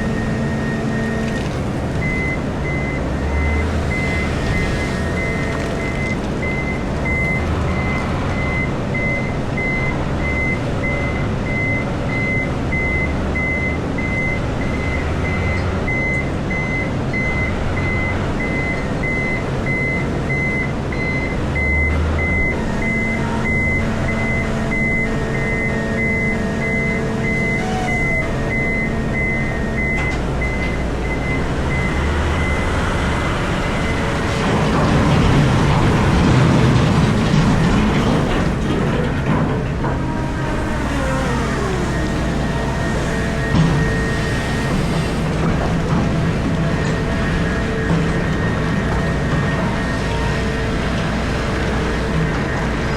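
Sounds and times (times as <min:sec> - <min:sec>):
excavator engine droning: 0:00.0 - 0:52.9.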